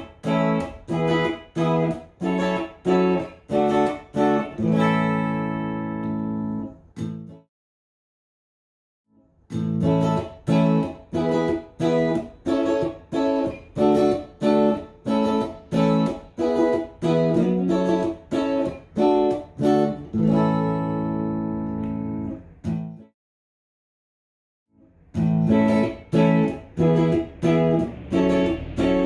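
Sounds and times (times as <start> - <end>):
clean electric guitar chords: 0.0 - 7.4, 9.5 - 23.1, 25.1 - 29.0.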